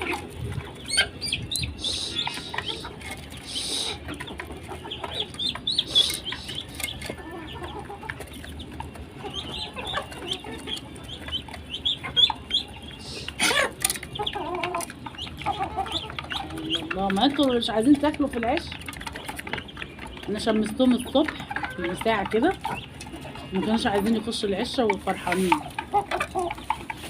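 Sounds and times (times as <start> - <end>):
clucking: 0.0 - 27.0
ducklings and chicks peeping: 0.0 - 27.0.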